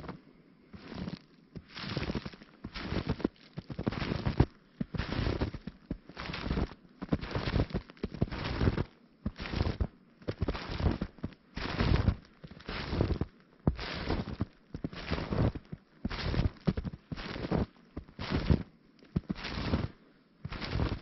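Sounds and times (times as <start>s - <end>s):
footsteps crunching in snow: 0.0s - 21.0s.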